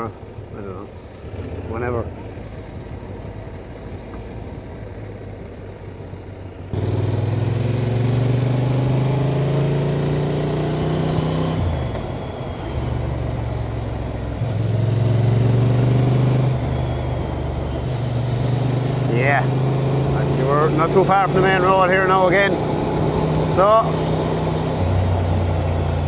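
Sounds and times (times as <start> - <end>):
motorcycle engine accelerating: 0.0 - 5.7, 6.6 - 26.0.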